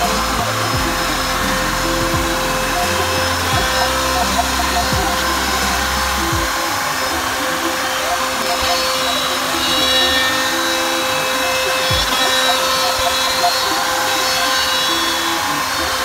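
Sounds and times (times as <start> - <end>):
background music: 0.0 - 16.0
router spindle whining: 0.0 - 16.0.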